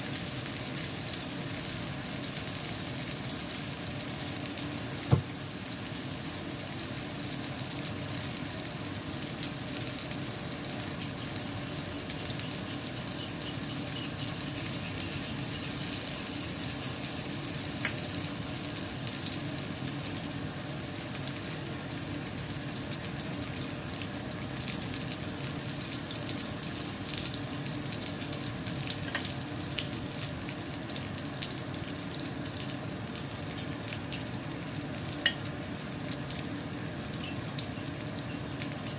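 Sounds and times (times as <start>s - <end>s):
fish sizzling in a pan: 0.0s - 38.9s.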